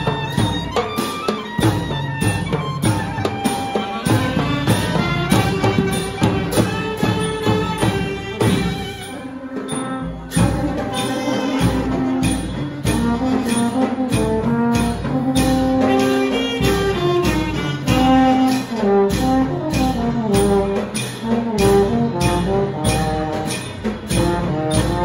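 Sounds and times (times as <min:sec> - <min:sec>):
brass band playing: 0:00.0 - 0:25.0
steady drum beat: 0:00.0 - 0:25.0.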